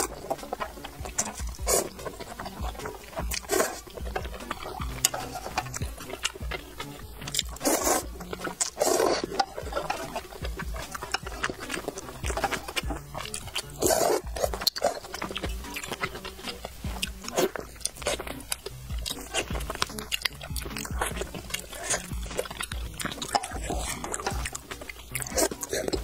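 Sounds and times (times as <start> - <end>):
lip smacks: 0.0 - 26.0
noodles slurped: 0.0 - 26.0
wet chewing: 0.0 - 26.0.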